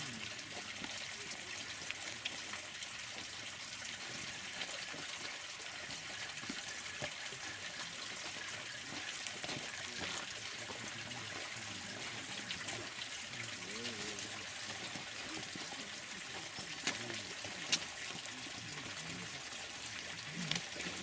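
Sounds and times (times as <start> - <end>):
water running and splashing: 0.0 - 21.0.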